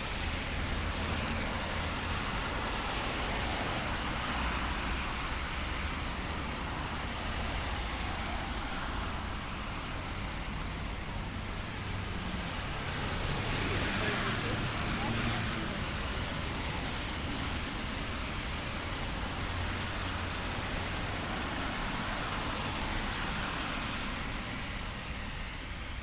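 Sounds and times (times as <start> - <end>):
rain: 0.0 - 26.0
traffic noise: 0.0 - 26.0
tyre hiss on wet asphalt: 0.0 - 26.0.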